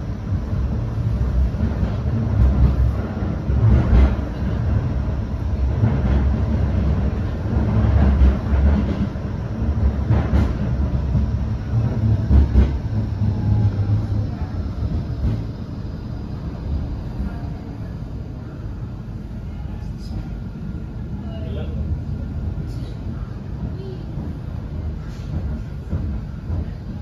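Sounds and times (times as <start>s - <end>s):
tram rumbling along track: 0.0s - 27.0s.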